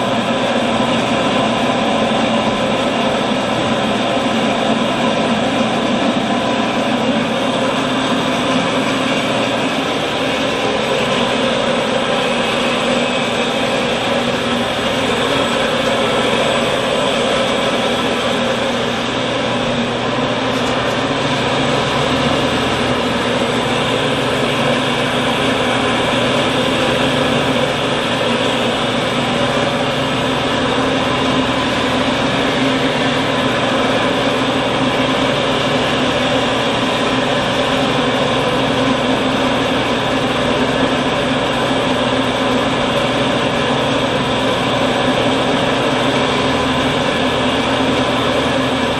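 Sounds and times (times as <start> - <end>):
mixer machine running: 0.0 - 48.9.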